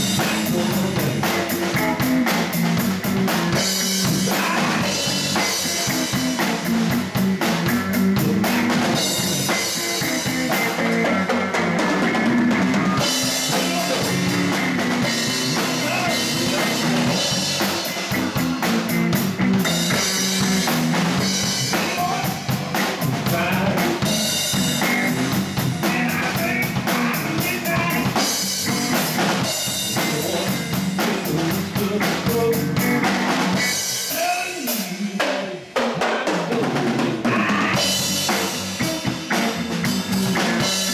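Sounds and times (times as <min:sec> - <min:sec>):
electric bass and guitar: 0:00.0 - 0:35.2, 0:36.5 - 0:40.9
drum kit snare and bass drum: 0:00.0 - 0:40.9.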